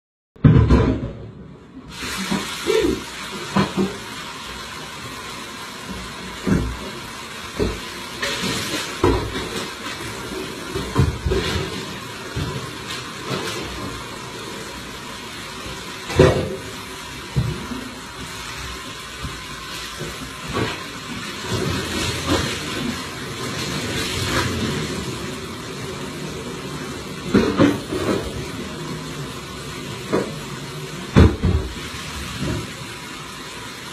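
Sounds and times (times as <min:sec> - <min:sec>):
rushing water: 0:01.9 - 0:33.9
water splashing and sloshing: 0:01.9 - 0:33.9.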